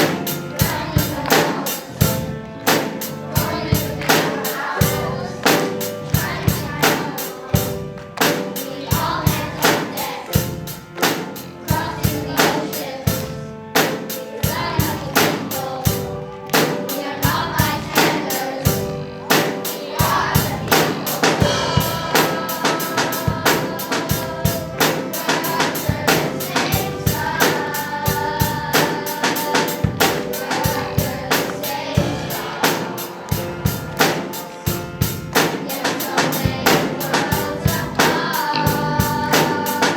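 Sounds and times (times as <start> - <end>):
steady drum beat: 0.0 - 39.9.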